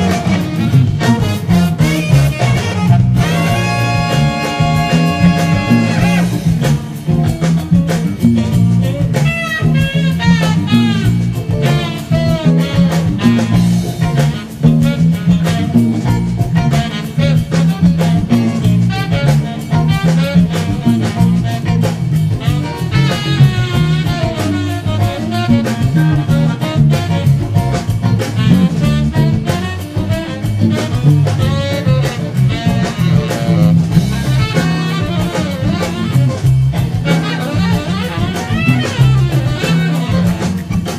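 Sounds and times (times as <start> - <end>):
drum kit: 0.0 - 40.9
electric bass guitar: 0.0 - 40.9
saxophone melody: 0.0 - 40.9.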